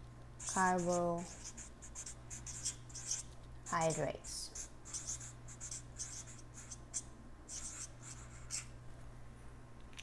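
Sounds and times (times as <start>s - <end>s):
marker writing on paper: 0.4s - 8.7s.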